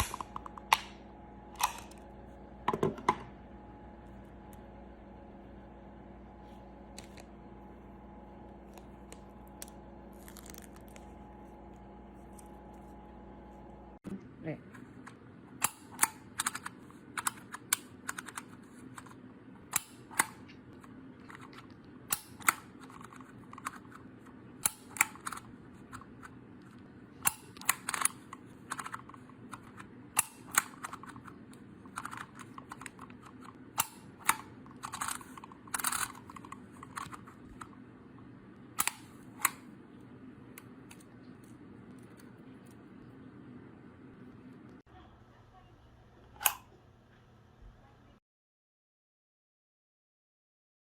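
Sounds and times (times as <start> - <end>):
faint steady hum: 0.0 - 48.2.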